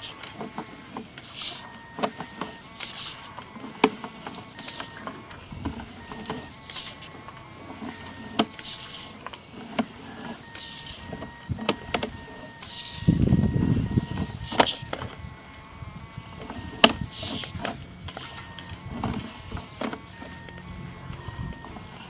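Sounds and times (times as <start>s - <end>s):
faint steady whine: 0.0s - 22.0s.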